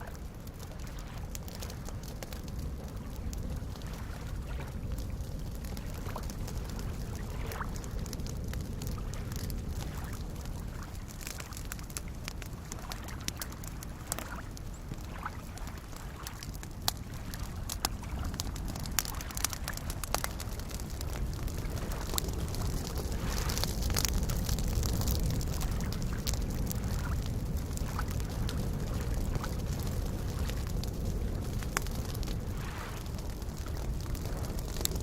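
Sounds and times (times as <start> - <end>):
small waves lapping: 0.0 - 34.8
campfire crackling and popping: 0.0 - 35.0.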